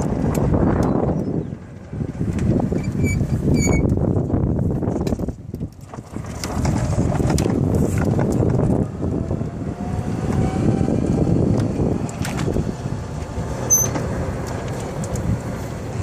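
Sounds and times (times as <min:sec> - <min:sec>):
golf cart rumbling: 0:00.0 - 0:16.0
wind on microphone: 0:00.0 - 0:16.0.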